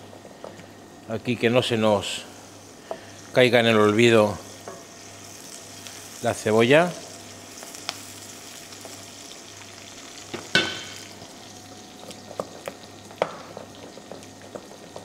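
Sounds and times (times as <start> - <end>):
onion sizzling in a pan: 0.0 - 15.0.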